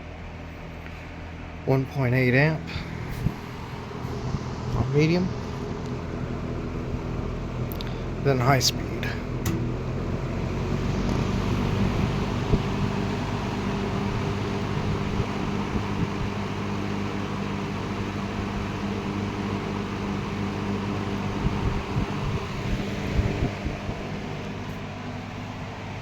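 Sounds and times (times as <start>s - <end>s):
box fan running: 0.0s - 26.0s.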